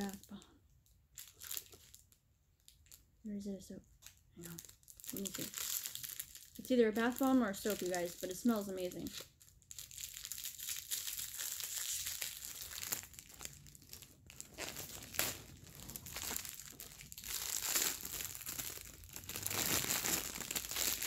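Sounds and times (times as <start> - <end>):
cellophane and tissue paper crinkling: 0.0 - 0.5, 1.1 - 3.1, 3.9 - 21.0.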